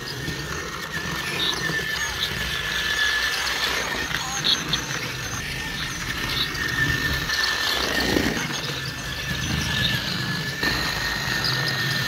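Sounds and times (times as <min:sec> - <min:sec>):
toy train motor whine: 0:00.0 - 0:12.0.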